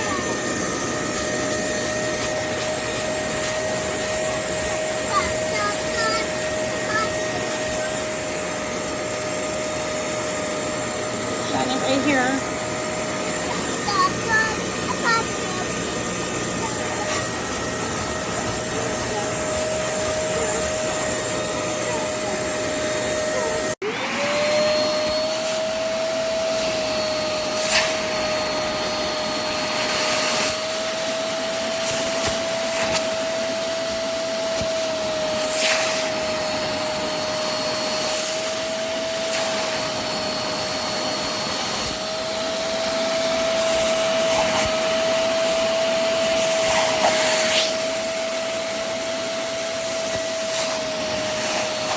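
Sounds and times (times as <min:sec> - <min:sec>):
spot cleaner suction motor running: 0:00.0 - 0:51.9.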